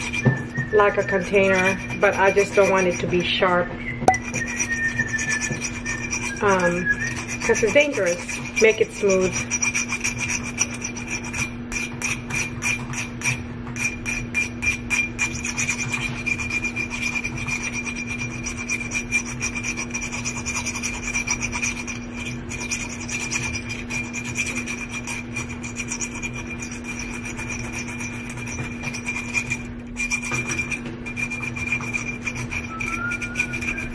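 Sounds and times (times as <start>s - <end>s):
metal file rasping on glass: 0.0s - 33.9s.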